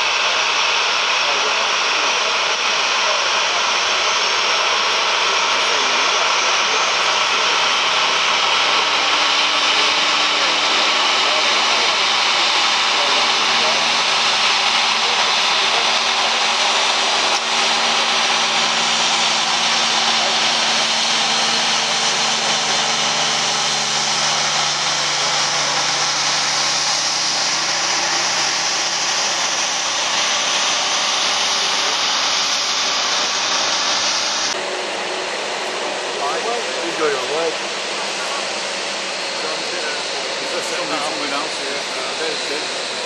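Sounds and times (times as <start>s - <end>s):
helicopter rotor roar: 0.0s - 43.0s.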